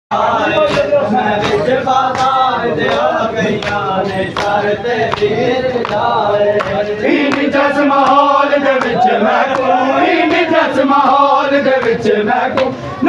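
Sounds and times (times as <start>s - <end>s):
men chanting together: 0.1s - 13.0s.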